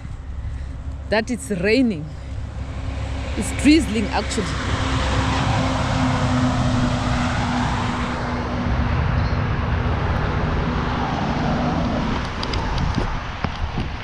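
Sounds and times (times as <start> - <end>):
car engine hum: 0.0 - 14.0.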